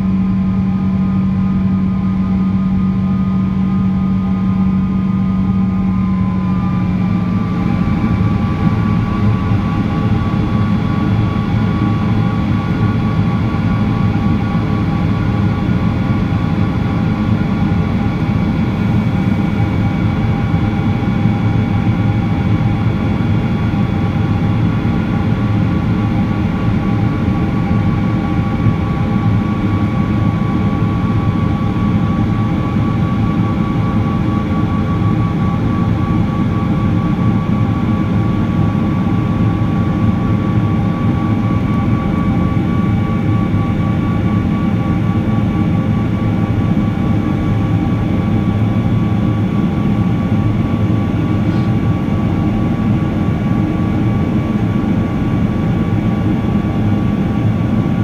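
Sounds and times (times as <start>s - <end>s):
jet engine low rumble: 0.0s - 58.0s
whining fan tones: 0.0s - 58.0s.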